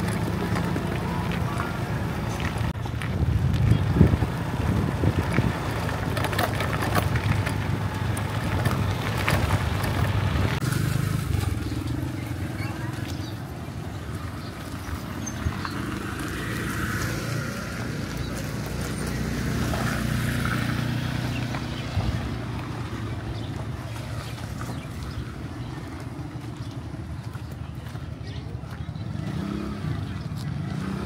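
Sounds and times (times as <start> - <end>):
motor vehicle engine humming: 0.0 - 31.0
street noise: 0.0 - 31.0.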